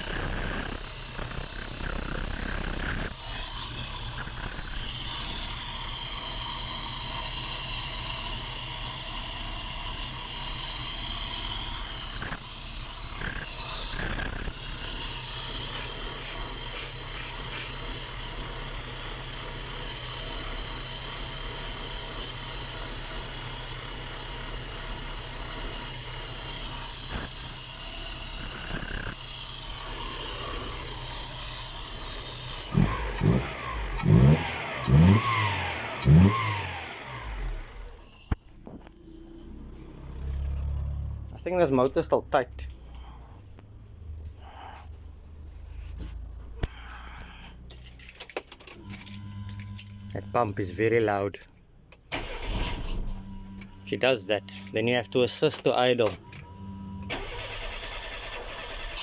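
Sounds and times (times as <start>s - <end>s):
car engine idling: 0.0s - 48.1s
high engine whine: 0.0s - 59.0s.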